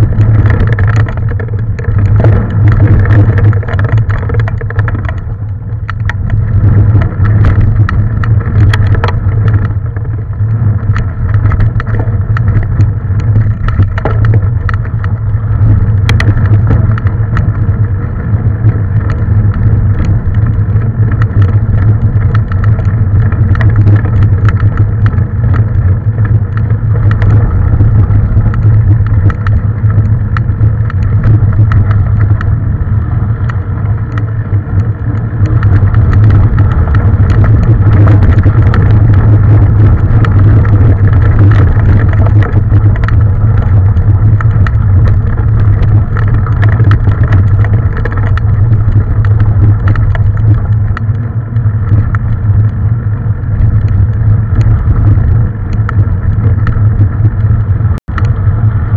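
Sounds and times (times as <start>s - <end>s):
bike rattling and clattering: 0.0s - 58.9s
wind rumble on microphone: 0.0s - 58.9s.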